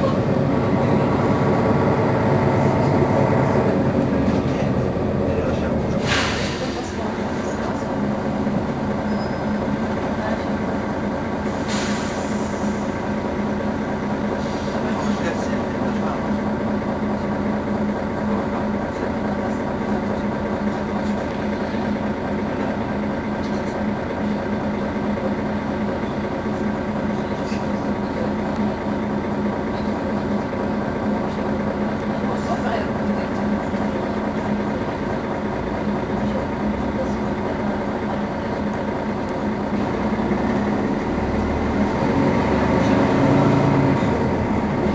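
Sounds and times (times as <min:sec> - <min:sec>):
bus engine idling: 0:00.0 - 0:44.9.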